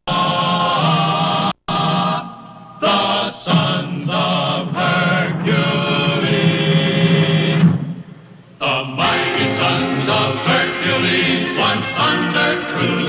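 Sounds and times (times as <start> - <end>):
choir holding long chords: 0.1 - 13.0.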